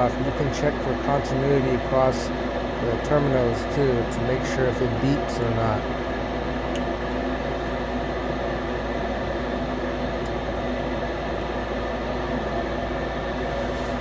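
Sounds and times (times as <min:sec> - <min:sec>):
furnace humming: 0:00.0 - 0:14.0.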